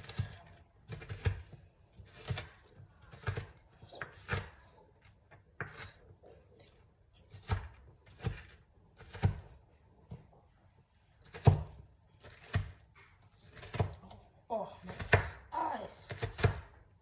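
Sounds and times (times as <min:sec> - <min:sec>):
knife slicing onion on board: 0:00.0 - 0:10.3, 0:11.2 - 0:16.9.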